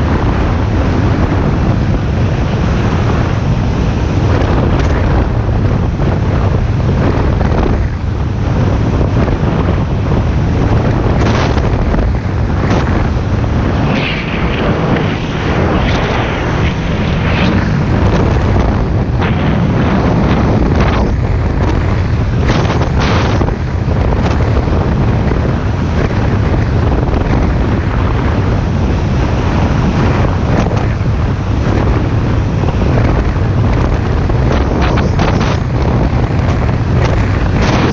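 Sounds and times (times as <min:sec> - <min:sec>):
boat engine drone: 0:00.0 - 0:37.9
wind buffeting microphone: 0:00.0 - 0:37.9.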